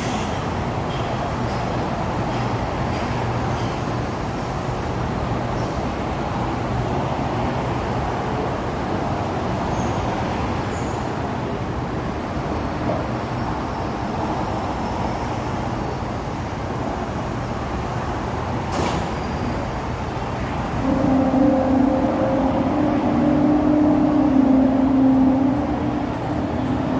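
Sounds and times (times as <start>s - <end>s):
monorail car running hum: 0.0s - 26.9s.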